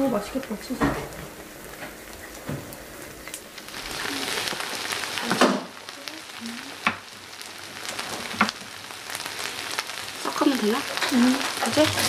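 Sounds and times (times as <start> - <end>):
rice sizzling in a hot pan: 0.0 - 12.0.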